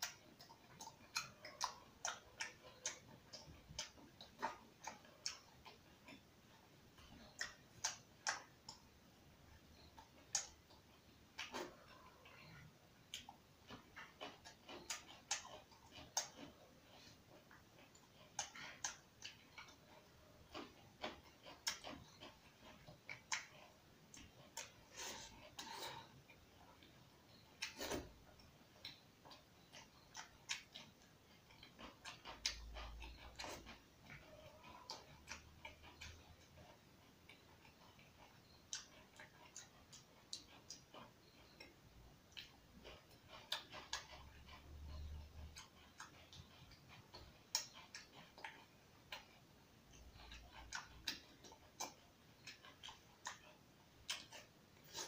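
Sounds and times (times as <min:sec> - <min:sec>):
chewing mouth clicks and smacks: 0:00.0 - 0:09.0, 0:09.7 - 0:55.0.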